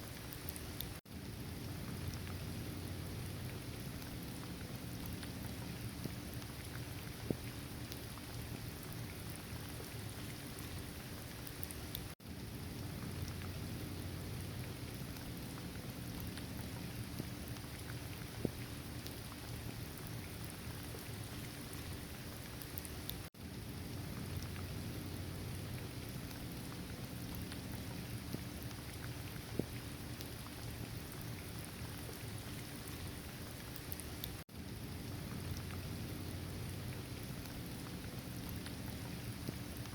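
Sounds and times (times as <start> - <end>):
raindrop ticks: 0.0 - 39.9
steady rain falling: 0.0 - 39.9.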